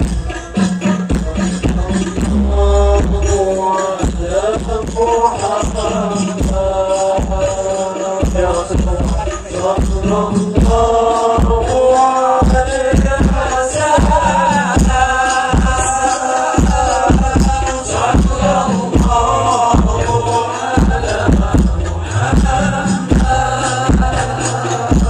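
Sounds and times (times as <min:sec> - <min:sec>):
hand drum beat: 0:00.0 - 0:25.0
men singing in chorus: 0:00.0 - 0:25.0.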